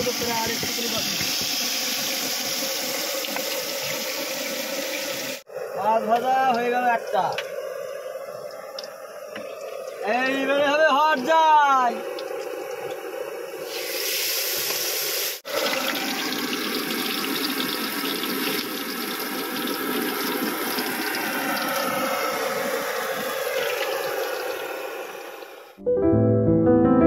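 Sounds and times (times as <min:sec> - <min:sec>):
fish sizzling in hot oil: 0:00.0 - 0:05.4, 0:09.5 - 0:25.8.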